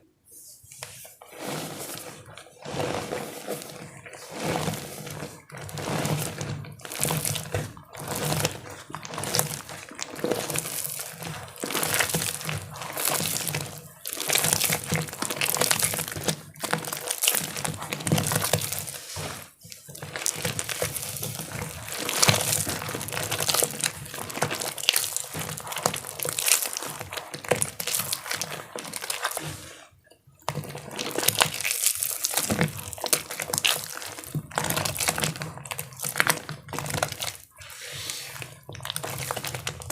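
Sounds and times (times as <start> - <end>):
wet crunching and crackling: 1.8 - 39.9.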